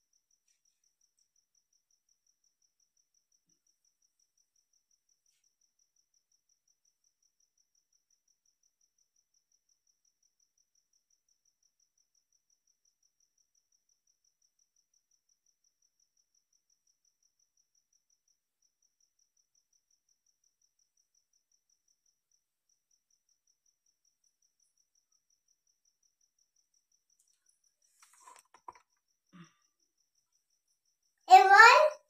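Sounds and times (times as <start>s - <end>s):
cricket chirping: 0.0s - 32.0s.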